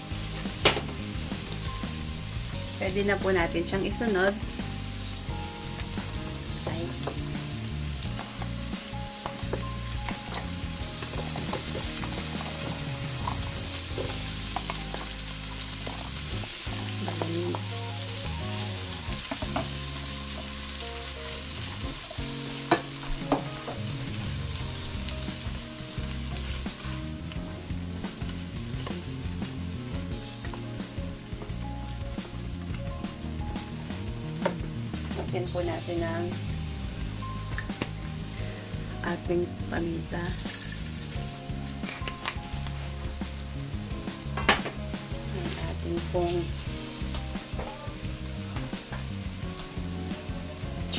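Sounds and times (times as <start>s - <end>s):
meat sizzling in a pot: 0.0s - 50.9s.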